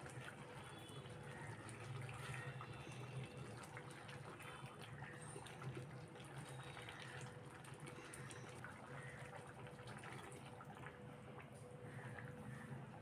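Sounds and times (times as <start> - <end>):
curry bubbling in a pot: 0.0 - 13.0
low steady hum: 0.0 - 13.0.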